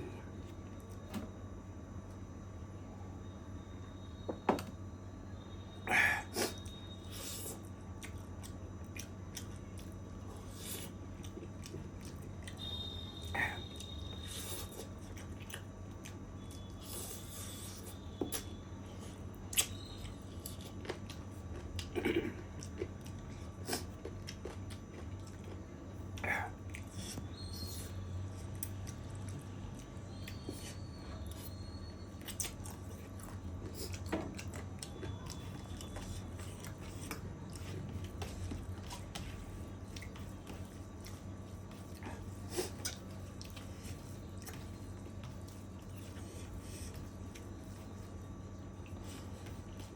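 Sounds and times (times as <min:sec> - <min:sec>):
low steady hum: 0:00.0 - 0:49.9
person chewing food: 0:06.0 - 0:49.9.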